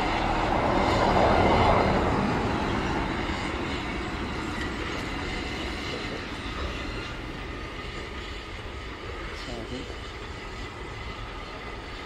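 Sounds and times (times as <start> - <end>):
steam train rumbling over rails: 0.0 - 12.0.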